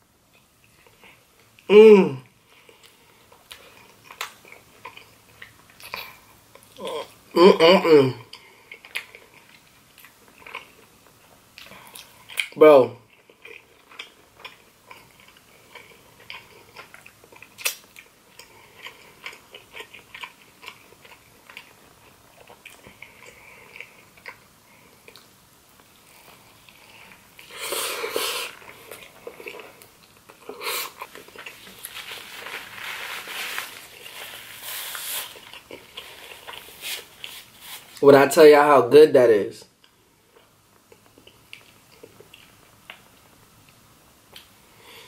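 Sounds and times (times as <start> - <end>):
chewing and wet mouth sounds: 0.3 - 7.2, 8.3 - 32.8, 33.7 - 38.0, 39.8 - 44.6.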